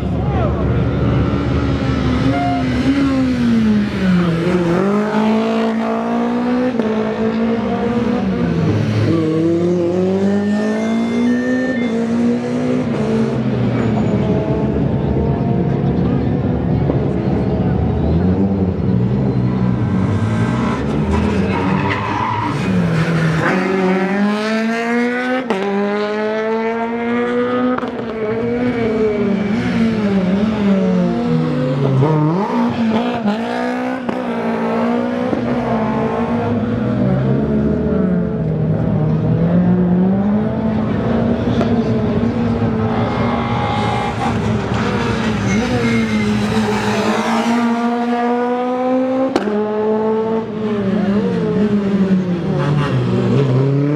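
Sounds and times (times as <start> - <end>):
rally car engines revving: 0.0 - 53.9.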